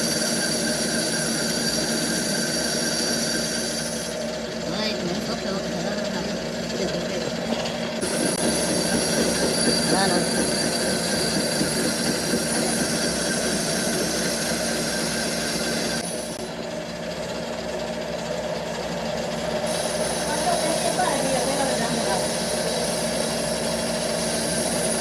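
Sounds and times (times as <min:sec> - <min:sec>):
high machine whine: 0:00.0 - 0:25.0
metalworking machinery humming: 0:00.0 - 0:25.0.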